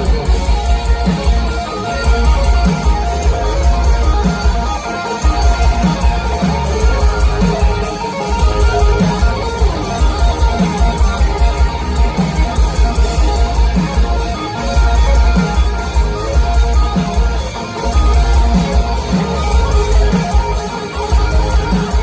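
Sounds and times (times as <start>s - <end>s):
live hard rock band: 0.0s - 22.0s.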